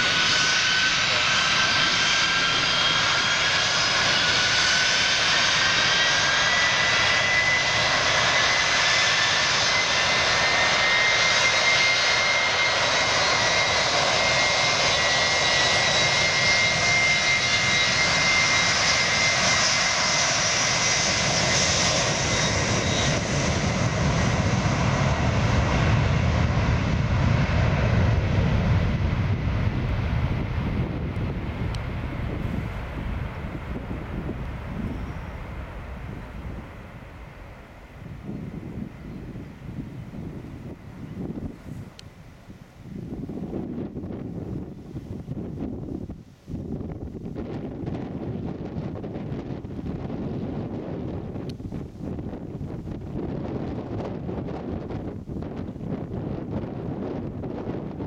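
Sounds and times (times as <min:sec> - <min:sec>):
jet engines whining: 0:00.0 - 0:58.0
low jet rumble: 0:00.0 - 0:58.0.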